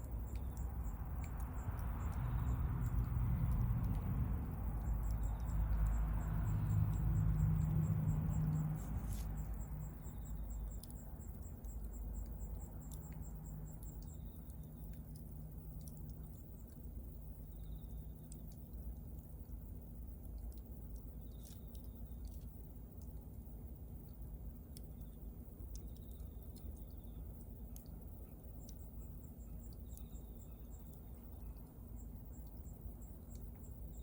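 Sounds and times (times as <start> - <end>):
low rumble of flames: 0.1 - 30.0.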